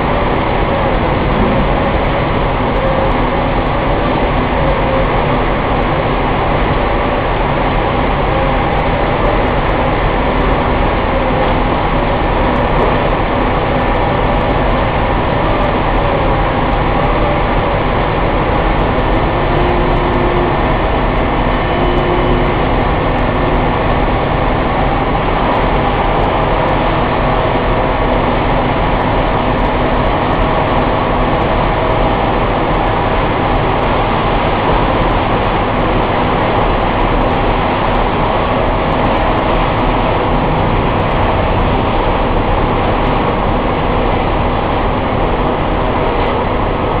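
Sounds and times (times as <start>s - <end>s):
production line machinery running: 0.0s - 47.0s.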